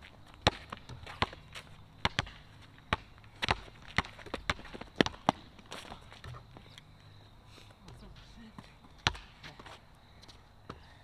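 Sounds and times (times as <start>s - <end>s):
basketball bouncing: 0.0s - 6.7s, 7.8s - 10.9s.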